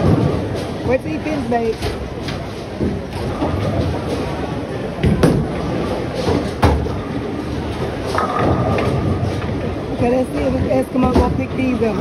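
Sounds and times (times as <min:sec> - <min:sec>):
bowling balls rolling: 0:00.0 - 0:12.0.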